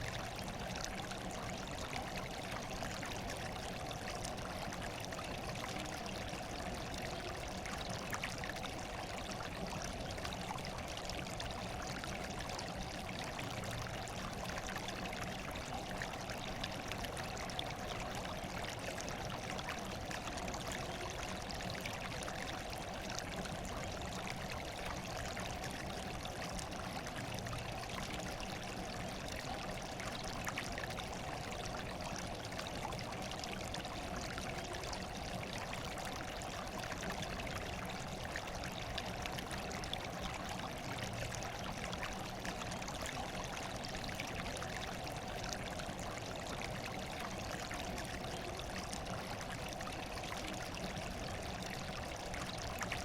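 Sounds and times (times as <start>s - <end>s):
water trickling and splashing: 0.0s - 53.0s.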